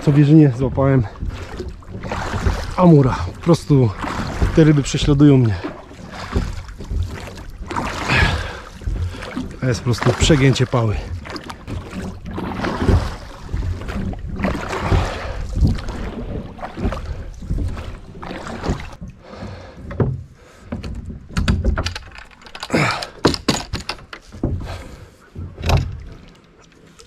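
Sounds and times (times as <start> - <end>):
oars knocking in oarlocks: 0.0 - 27.0
water splashing from oar strokes: 0.0 - 27.0.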